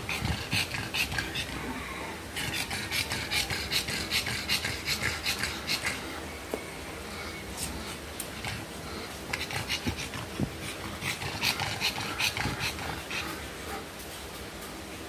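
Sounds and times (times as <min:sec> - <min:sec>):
dog panting hard: 0:00.0 - 0:01.8, 0:02.4 - 0:06.2, 0:07.3 - 0:13.9.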